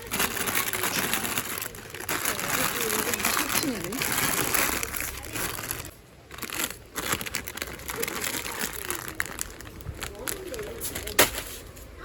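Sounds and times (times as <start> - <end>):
plastic packet crinkling: 0.0 - 11.4.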